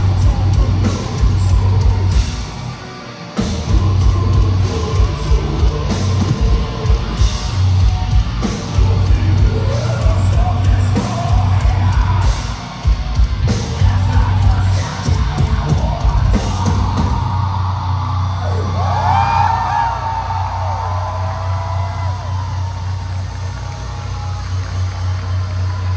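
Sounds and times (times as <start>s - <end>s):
heavy pounding drums: 0.0s - 25.9s
metalcore band playing live: 0.0s - 25.9s.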